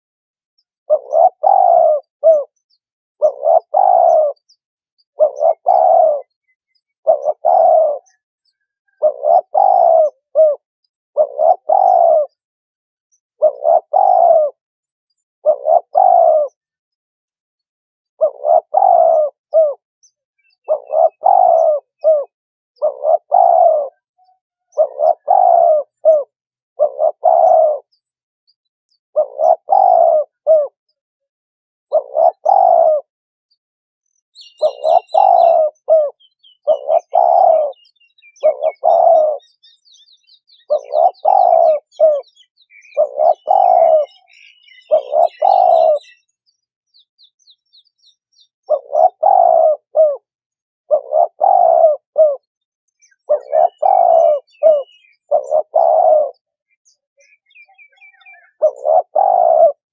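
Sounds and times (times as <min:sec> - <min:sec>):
dove cooing: 0:00.6 - 0:12.5, 0:13.3 - 0:16.8, 0:18.2 - 0:19.8, 0:20.4 - 0:28.2, 0:29.1 - 0:30.8, 0:31.9 - 0:33.1, 0:34.4 - 0:46.4, 0:48.6 - 0:59.9.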